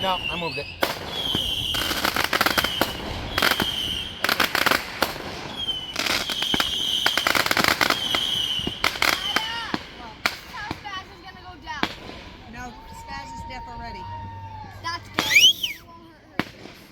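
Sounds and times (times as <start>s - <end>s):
firework whistles: 0.0s - 10.8s, 11.8s - 15.9s
firework crackling: 0.0s - 16.9s.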